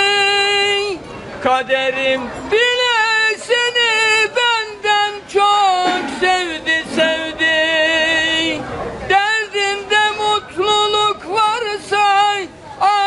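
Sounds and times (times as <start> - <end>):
old man singing unaccompanied: 0.0 - 13.0.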